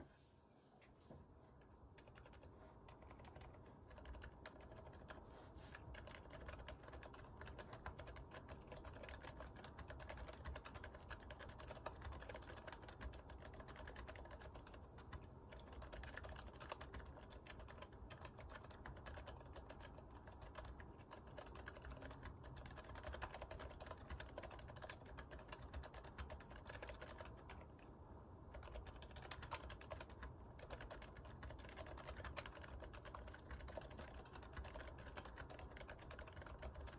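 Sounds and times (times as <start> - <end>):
typing on mechanical keyboard: 2.0 - 27.7, 28.5 - 36.9.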